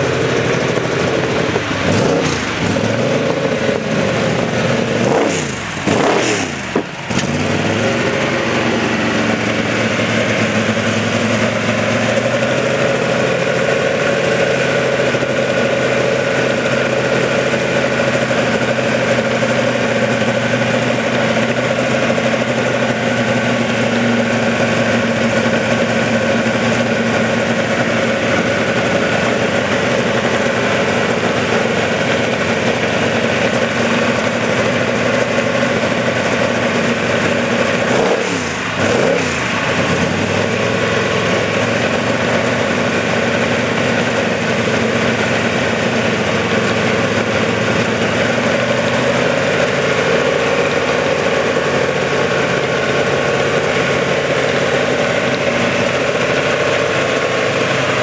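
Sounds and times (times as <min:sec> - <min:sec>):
race car engine blipping and idling: 0:00.0 - 0:58.0.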